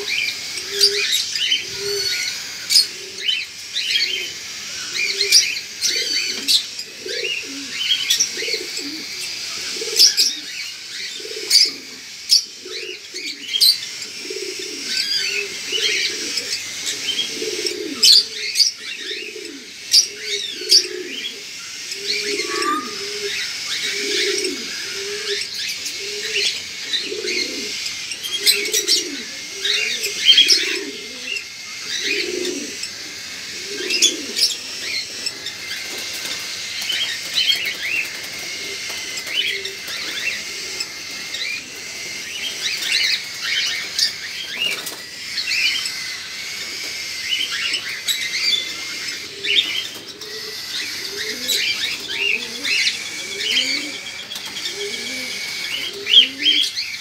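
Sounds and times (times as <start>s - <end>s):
cockatiels chirping: 0.0s - 57.0s
low bird cooing: 0.0s - 57.0s.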